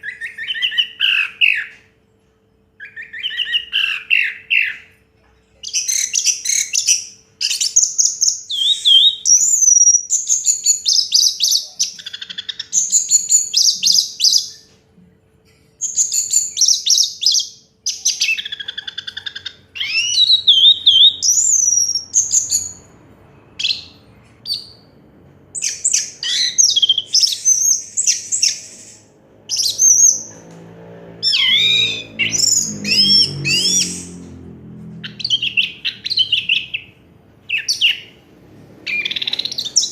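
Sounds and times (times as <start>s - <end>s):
bird singing trills and whistles: 0.0s - 1.9s, 2.8s - 4.9s, 5.6s - 14.7s, 15.8s - 24.9s, 25.6s - 30.4s, 31.2s - 34.4s, 35.0s - 38.2s, 38.8s - 39.9s.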